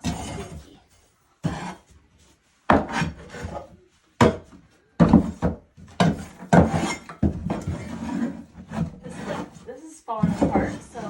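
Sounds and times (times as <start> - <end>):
scraping on wooden boxes: 0.0 - 0.8, 1.4 - 11.0.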